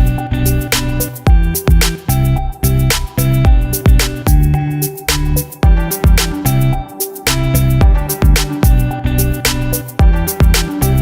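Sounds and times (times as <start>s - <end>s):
music with steady beat: 0.0s - 11.0s.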